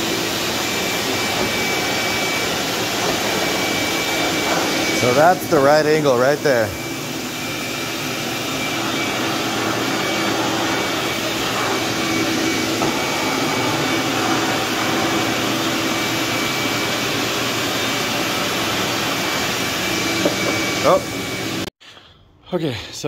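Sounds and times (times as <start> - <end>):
shop vacuum whining: 0.0 - 21.7.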